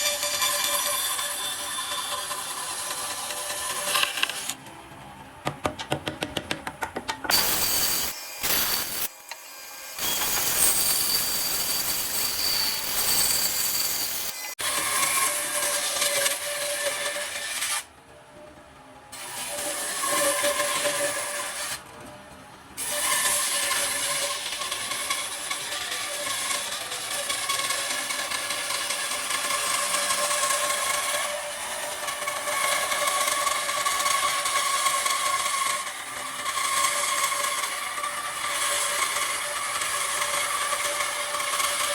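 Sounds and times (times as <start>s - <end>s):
power tool on wood: 0.0s - 4.6s, 7.3s - 17.8s, 22.8s - 41.9s.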